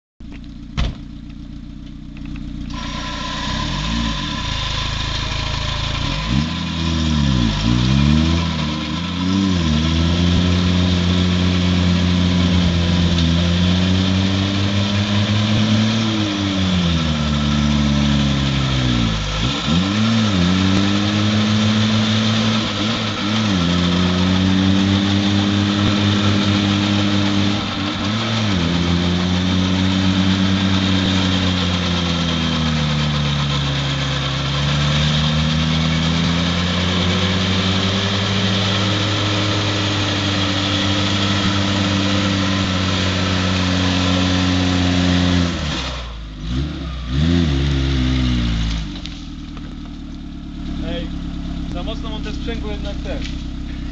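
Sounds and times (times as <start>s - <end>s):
off-road vehicle engine revving: 0.6s - 53.9s.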